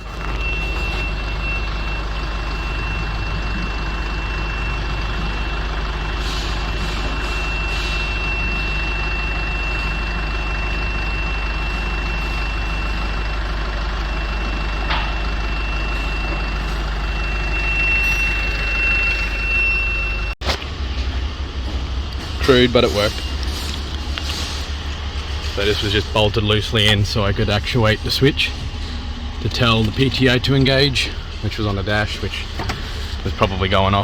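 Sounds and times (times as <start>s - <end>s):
diesel truck idling: 0.0s - 34.0s
high whine: 0.0s - 34.0s.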